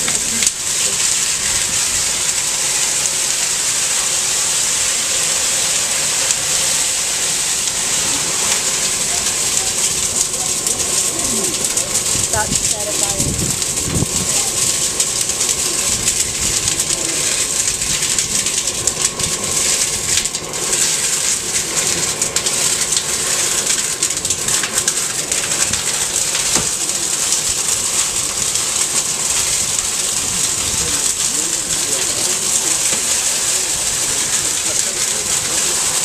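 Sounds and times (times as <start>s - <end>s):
fire hissing and crackling: 0.0s - 36.0s.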